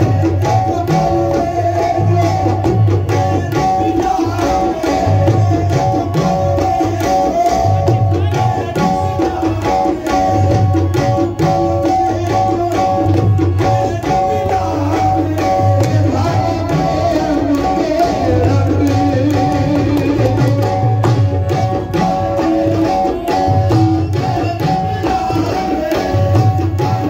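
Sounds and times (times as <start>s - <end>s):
harmonium notes: 0.0s - 27.0s
tabla rhythm: 0.0s - 27.0s.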